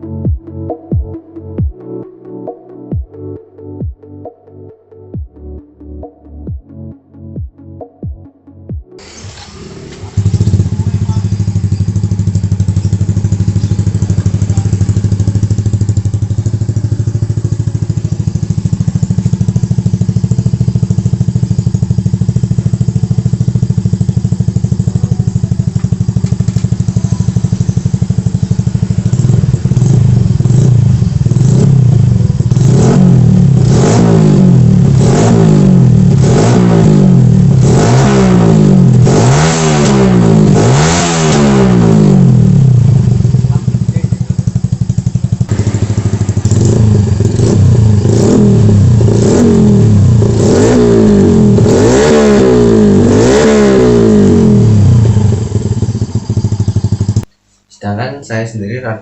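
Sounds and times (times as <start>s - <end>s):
motorcycle engine idling: 9.0s - 57.3s
motorcycle engine revving: 9.0s - 57.3s.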